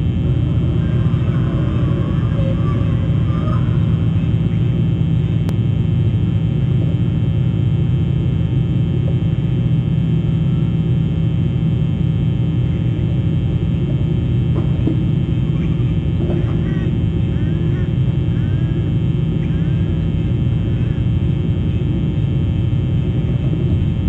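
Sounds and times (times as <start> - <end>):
low rumble and electrical hum: 0.0 - 24.0.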